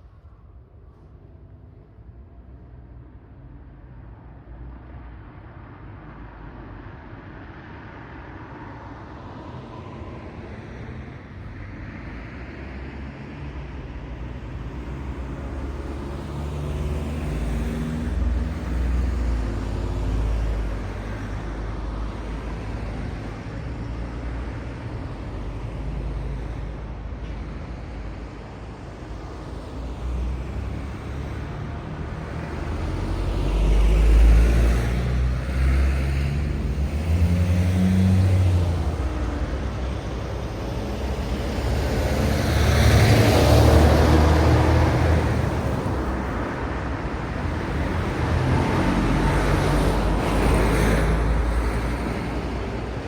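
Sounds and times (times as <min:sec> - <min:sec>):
cars and trucks passing: 0:03.2 - 0:53.0.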